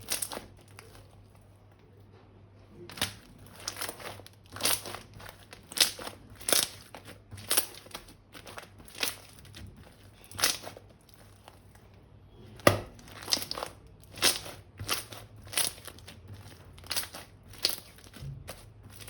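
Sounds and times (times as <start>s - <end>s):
materials crinkling and crunching: 0.0s - 1.9s, 2.7s - 19.0s.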